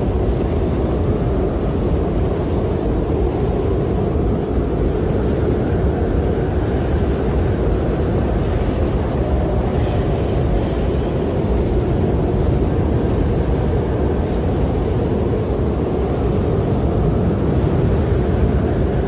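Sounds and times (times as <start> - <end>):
snowstorm wind blowing: 0.0 - 19.0.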